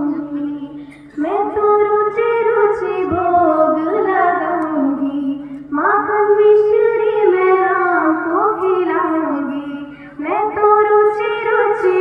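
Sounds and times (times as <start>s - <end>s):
girl singing into a microphone: 0.0s - 12.0s.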